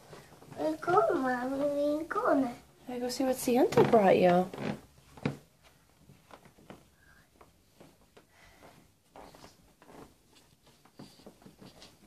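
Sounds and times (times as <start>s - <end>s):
faint soft taps and rustles: 0.0s - 2.3s, 3.0s - 12.0s.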